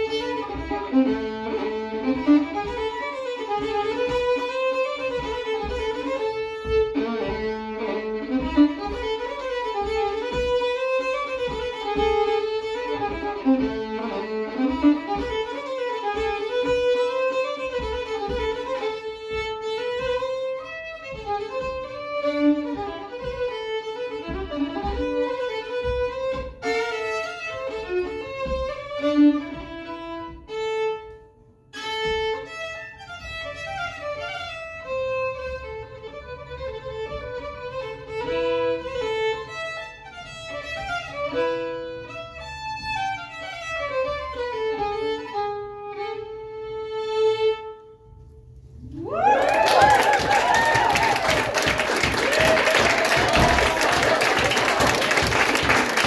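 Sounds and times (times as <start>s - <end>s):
low beat: 0.0s - 45.4s, 48.0s - 49.4s
fiddle folk tune with band: 0.0s - 48.4s.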